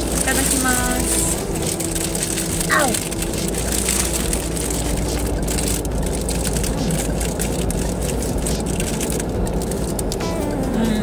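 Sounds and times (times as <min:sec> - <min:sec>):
car idling rumble: 0:00.0 - 0:11.0
paper wrappers crinkling: 0:00.0 - 0:11.0.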